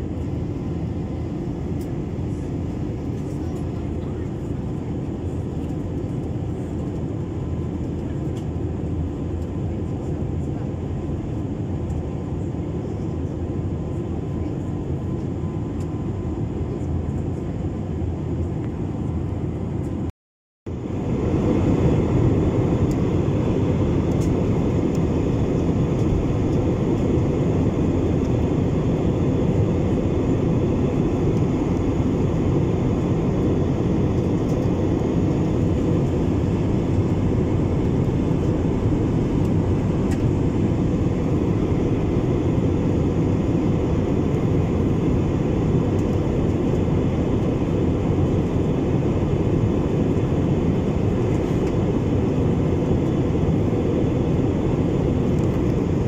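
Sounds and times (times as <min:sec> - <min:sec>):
jet engines roaring in cabin: 0:00.0 - 0:20.1, 0:20.7 - 0:56.0.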